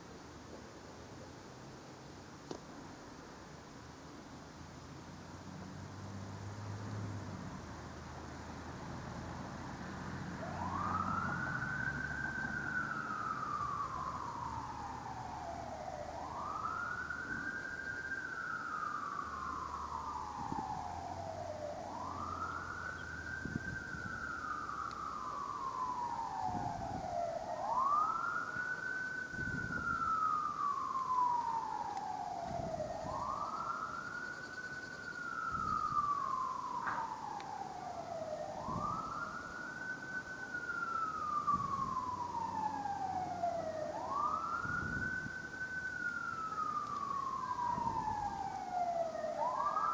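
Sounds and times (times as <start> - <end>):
siren wailing: 8.9 - 49.9.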